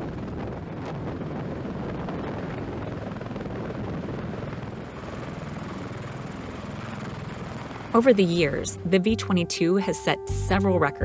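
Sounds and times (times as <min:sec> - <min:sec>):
tiltrotor aircraft hovering: 0:00.0 - 0:11.0.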